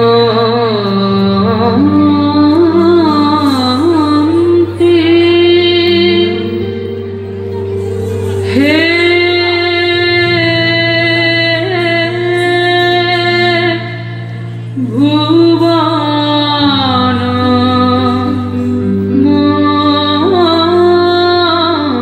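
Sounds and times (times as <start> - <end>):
woman singing long notes: 0.0 - 22.0.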